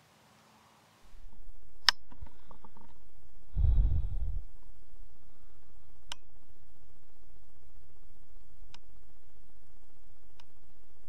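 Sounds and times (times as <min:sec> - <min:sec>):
low rumble: 0:01.1 - 0:11.0.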